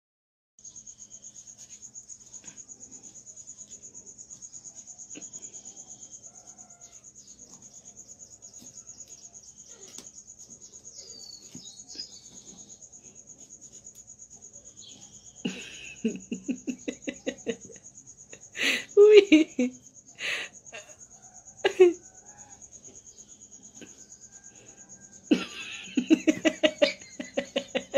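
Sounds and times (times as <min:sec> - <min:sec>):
cricket chirping: 0:00.6 - 0:27.9.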